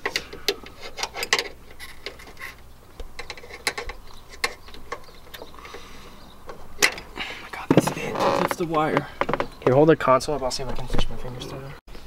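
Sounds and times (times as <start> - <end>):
wires rustling: 0.0 - 11.0.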